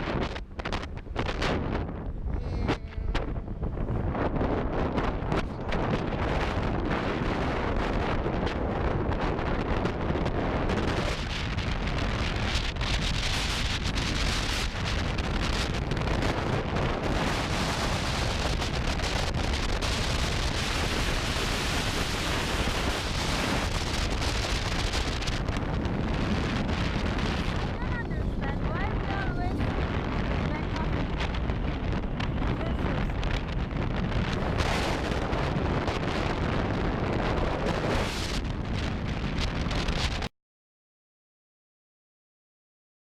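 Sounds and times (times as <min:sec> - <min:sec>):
wind buffeting microphone: 0:00.0 - 0:40.3.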